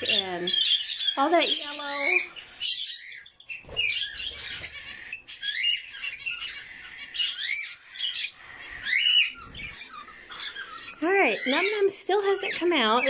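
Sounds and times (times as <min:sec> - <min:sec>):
caged birds chirping and chattering: 0:00.0 - 0:13.0.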